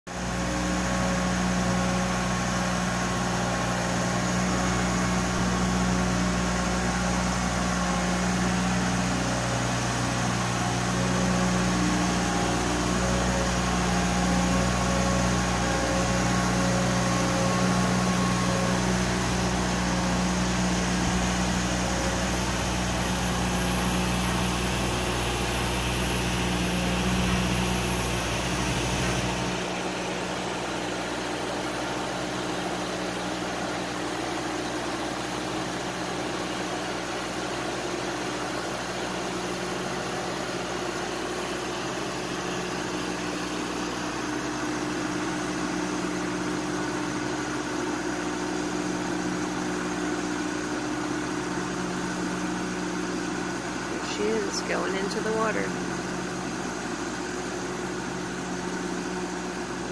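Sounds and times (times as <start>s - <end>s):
boat hoist engine droning: 0.1s - 59.9s.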